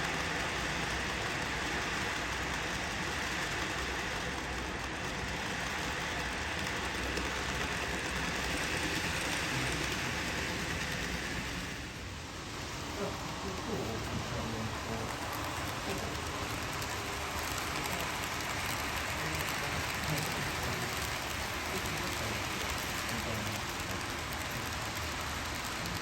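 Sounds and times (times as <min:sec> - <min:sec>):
model trains whirring on track: 0:00.0 - 0:26.0.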